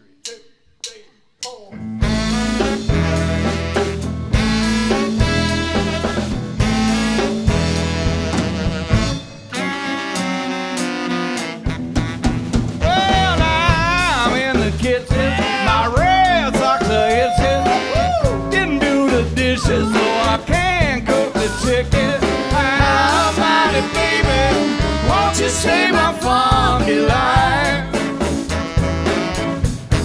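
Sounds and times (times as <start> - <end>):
live funk band playing: 1.9 - 30.0.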